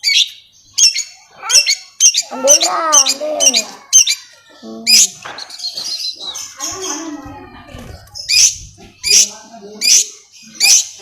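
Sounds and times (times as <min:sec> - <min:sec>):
bird harsh scratchy calls: 0:00.0 - 0:11.0.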